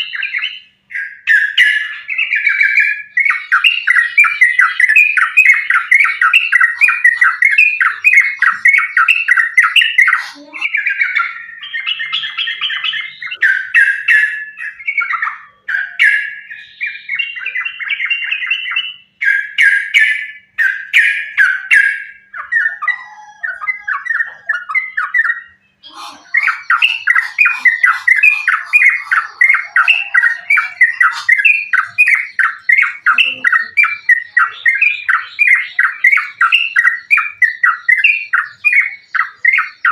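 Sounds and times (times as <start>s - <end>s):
bulbuls singing chattering notes: 0.0s - 39.9s
harsh squawking bird calls: 0.0s - 39.9s.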